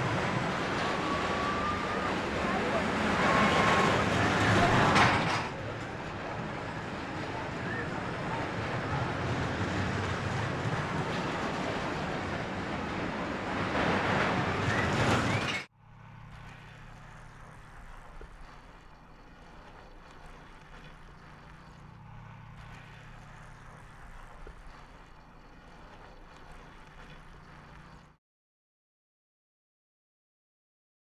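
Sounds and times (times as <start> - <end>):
low hum: 0.0 - 28.2
roller coaster on steel track: 0.0 - 28.2.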